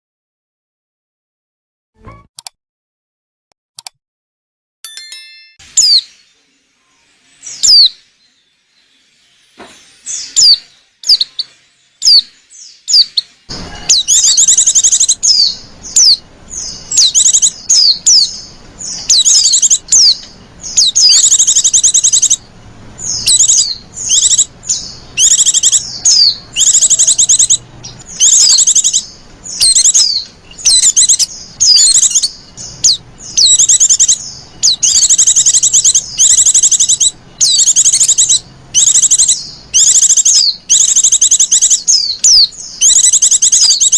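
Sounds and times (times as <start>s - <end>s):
bird twittering chirps: 5.3s - 43.9s.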